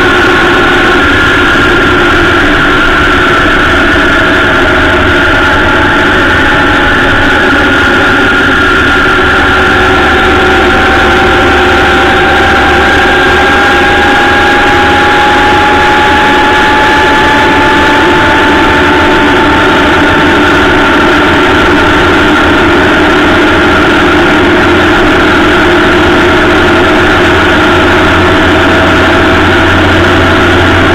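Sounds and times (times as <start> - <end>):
motorcycle engine and road noise: 0.0 - 30.9
rising whine: 0.0 - 30.9.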